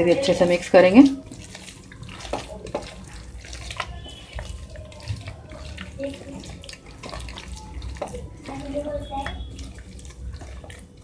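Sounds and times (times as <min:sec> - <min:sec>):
hand squelching wet minced meat: 0:00.0 - 0:11.0.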